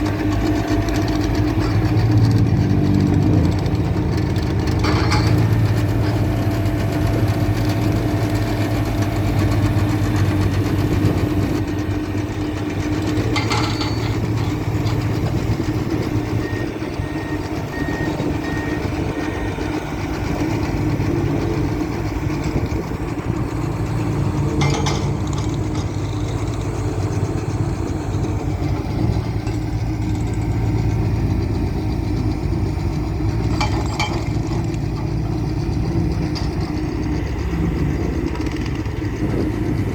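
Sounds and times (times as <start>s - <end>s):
road roller engine running: 0.0s - 39.9s.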